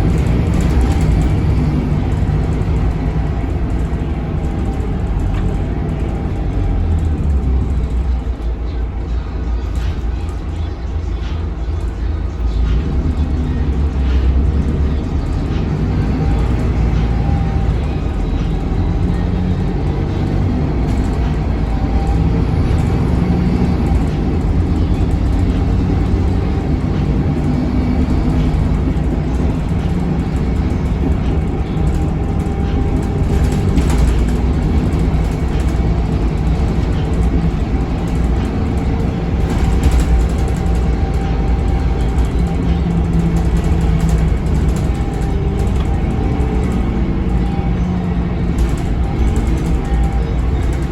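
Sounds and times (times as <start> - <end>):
bus engine rumble with faint whine: 0.0 - 50.9.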